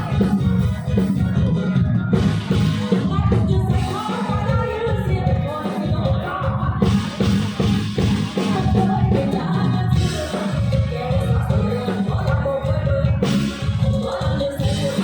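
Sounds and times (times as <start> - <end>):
drum and bass beat: 0.0 - 15.0
live band playing: 0.0 - 15.0
woman singing: 2.8 - 15.0.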